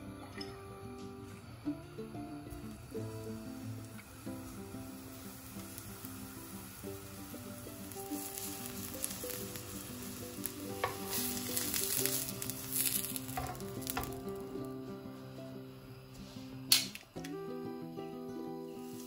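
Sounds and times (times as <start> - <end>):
background music: 0.0 - 19.0
vegetables sizzling in hot oil: 0.8 - 19.0.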